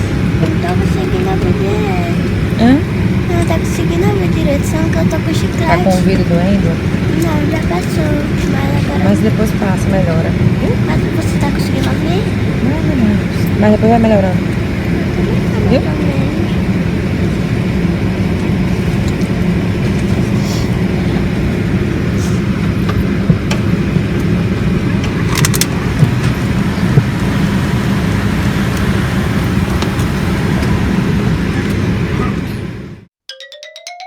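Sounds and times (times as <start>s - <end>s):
airliner cabin engine drone: 0.0s - 33.1s.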